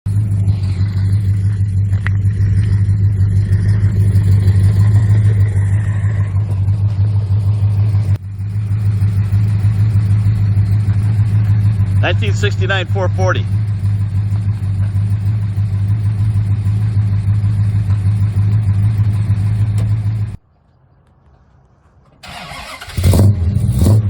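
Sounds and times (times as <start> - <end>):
car engine deep rumble: 0.0 - 20.4, 21.7 - 24.0.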